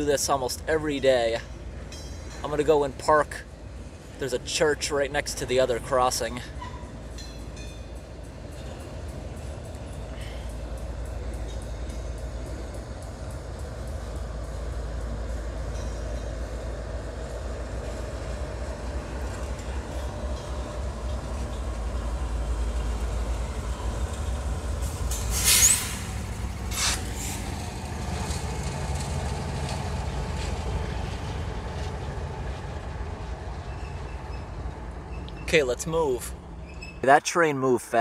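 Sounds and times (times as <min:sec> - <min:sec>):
diesel locomotive passing: 0:00.0 - 0:38.0
low rumble of railcars: 0:00.0 - 0:38.0.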